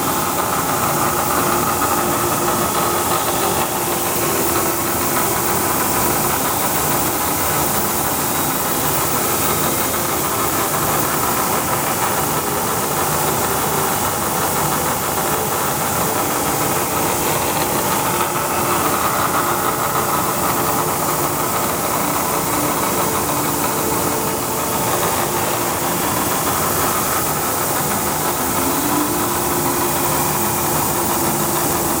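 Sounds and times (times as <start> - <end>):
milling machine humming: 0.0 - 32.0.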